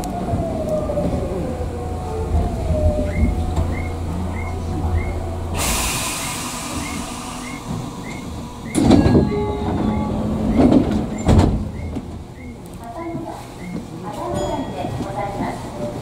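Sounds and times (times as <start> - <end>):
wheel clatter over rail joints: 0.0 - 15.6
train running rumble: 0.0 - 16.0.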